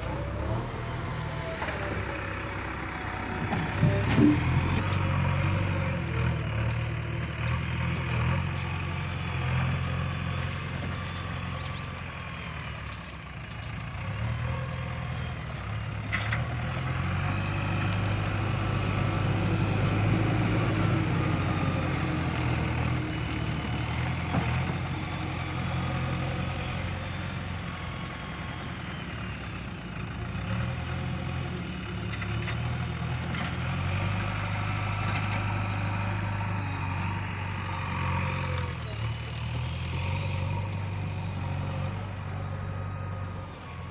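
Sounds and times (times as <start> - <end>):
heavy diesel engine idling: 0.0 - 43.9.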